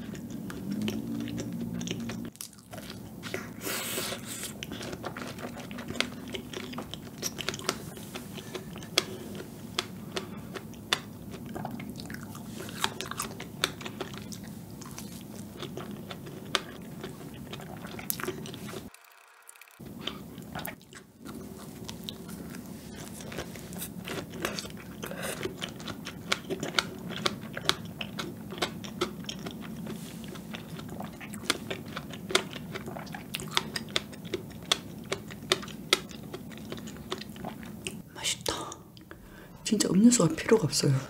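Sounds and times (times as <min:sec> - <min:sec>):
wet chewing and mouth clicks: 0:00.0 - 0:38.0.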